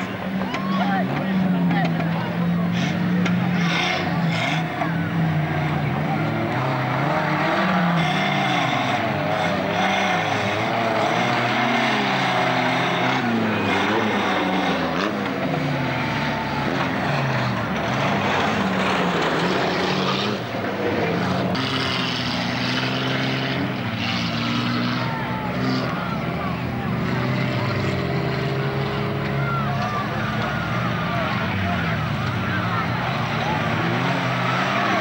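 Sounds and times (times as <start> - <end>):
stock car engines revving: 0.0 - 35.0.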